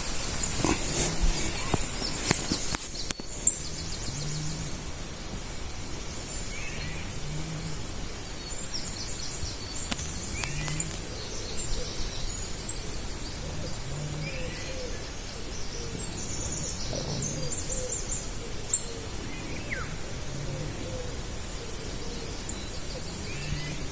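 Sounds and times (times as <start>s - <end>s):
bird chirps and trills: 0.0s - 23.9s
low hooting bird calls: 0.0s - 23.9s.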